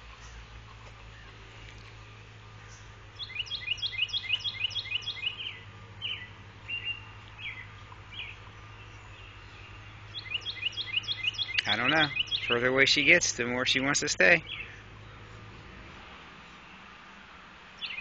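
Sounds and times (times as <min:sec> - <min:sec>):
songbird chirping: 0:00.0 - 0:18.0
steady low hum: 0:00.0 - 0:18.0.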